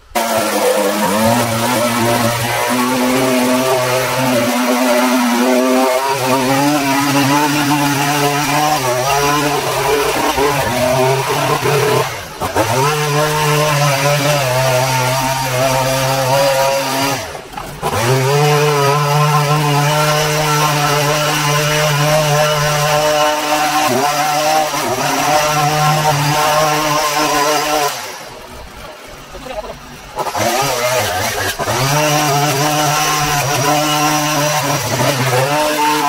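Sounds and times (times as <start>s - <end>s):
grass trimmer engine revving: 0.0s - 36.0s.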